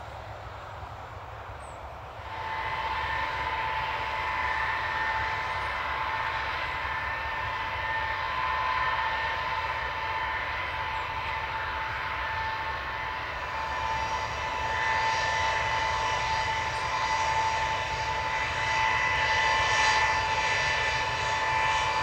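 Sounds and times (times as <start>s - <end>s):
jet engines whining: 0.0s - 22.0s.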